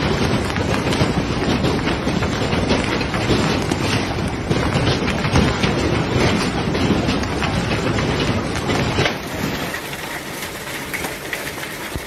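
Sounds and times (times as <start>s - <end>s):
hail and rain falling: 0.0s - 12.0s
wind buffeting microphone: 0.0s - 12.0s.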